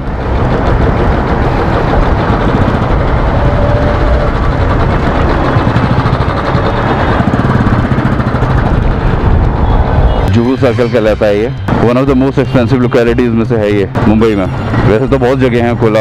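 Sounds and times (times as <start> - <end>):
motorcycle engine pulsing: 0.0 - 16.0.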